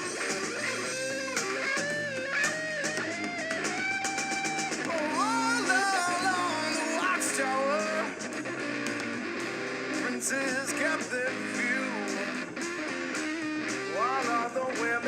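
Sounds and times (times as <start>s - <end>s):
drums: 0.0s - 15.0s
electric guitar solo: 0.0s - 15.0s
strummed rhythm guitar: 0.0s - 15.0s.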